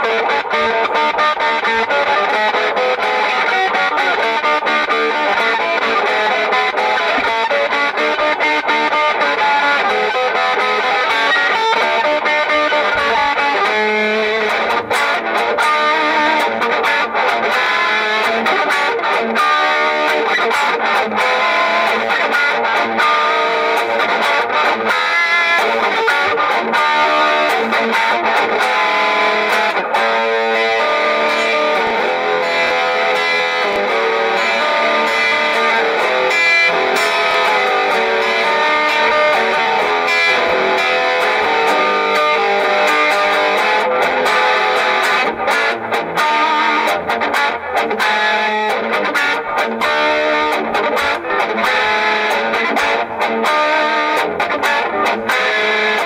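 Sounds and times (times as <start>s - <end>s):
distorted electric guitar riff: 0.0s - 56.0s.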